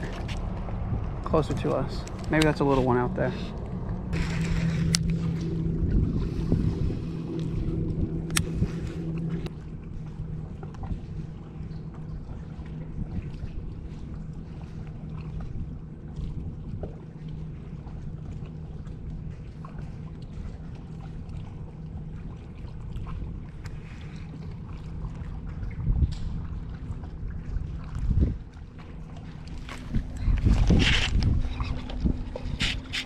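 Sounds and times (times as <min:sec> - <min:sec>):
steady low hum: 0:00.0 - 0:33.0
wind rumbling on microphone: 0:00.0 - 0:33.0.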